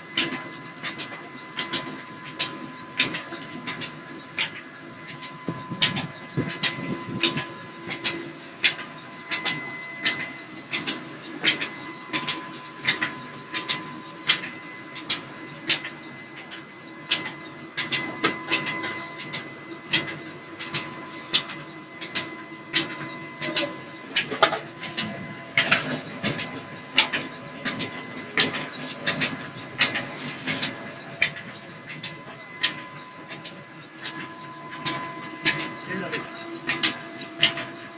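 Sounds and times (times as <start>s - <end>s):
machine hum with thin whine: 0.0s - 37.9s.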